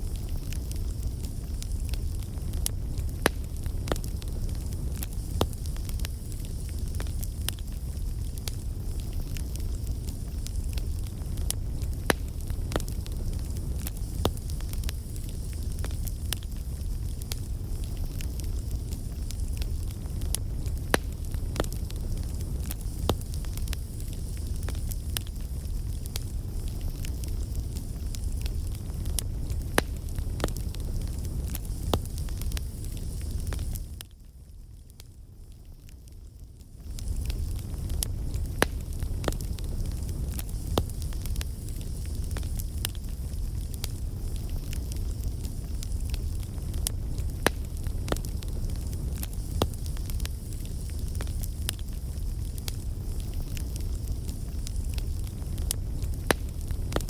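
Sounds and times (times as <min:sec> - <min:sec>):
fire crackles and pops: 0:00.0 - 0:57.0
low rumble of flame: 0:00.0 - 0:57.0.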